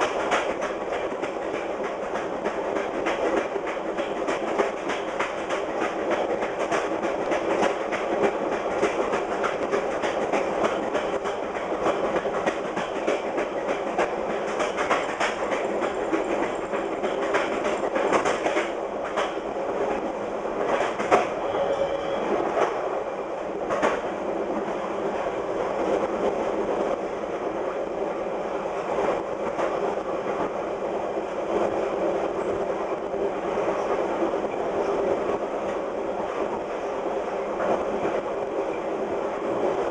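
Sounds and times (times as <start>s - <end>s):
train rolling noise: 0.0s - 39.9s
train wheels clickety-clack: 0.0s - 39.9s.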